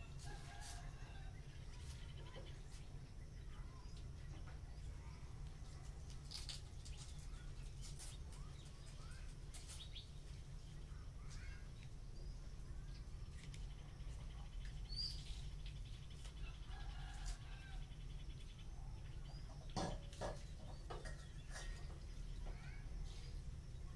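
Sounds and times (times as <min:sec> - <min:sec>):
faint bird chirps and calls: 0:00.0 - 0:23.9
steady low hum: 0:00.0 - 0:23.9.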